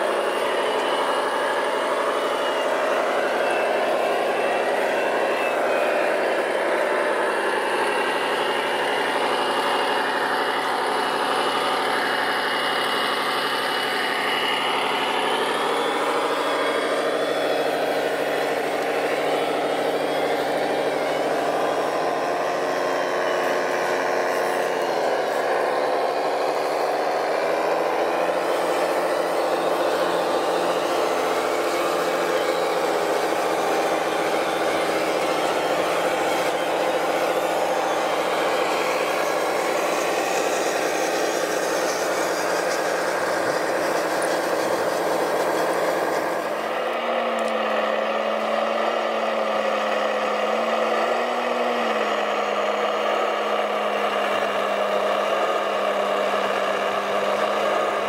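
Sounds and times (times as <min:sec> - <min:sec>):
rc truck motors whining: 0:00.0 - 0:58.0.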